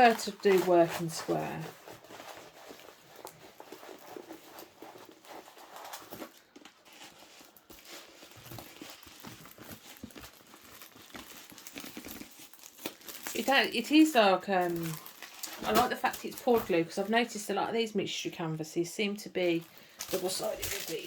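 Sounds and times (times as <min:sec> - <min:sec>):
plastic packaging rustling: 0:00.0 - 0:17.4, 0:19.4 - 0:21.0.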